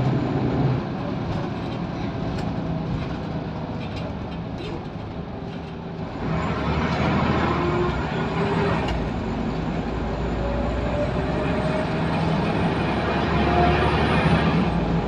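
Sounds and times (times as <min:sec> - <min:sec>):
bus diesel engine: 0:00.0 - 0:15.0.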